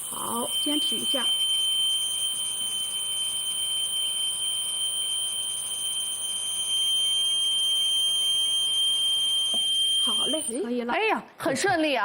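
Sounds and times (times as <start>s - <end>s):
whistle high note: 0.0s - 10.6s.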